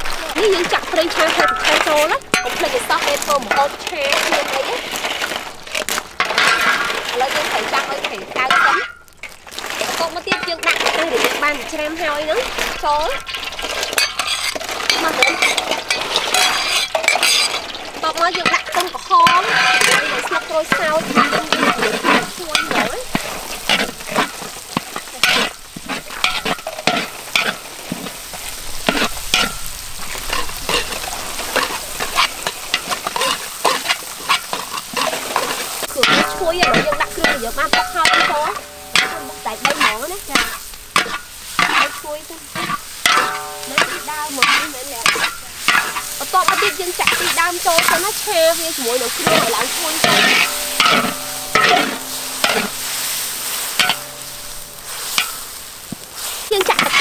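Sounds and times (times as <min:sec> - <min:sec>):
food sizzling in oil: 0:00.0 - 0:57.0
metal spatula scraping wok: 0:00.0 - 0:57.0.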